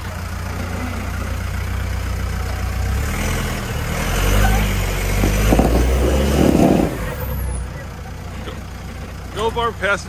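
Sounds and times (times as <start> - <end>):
truck engine running at low revs: 0.0 - 10.0.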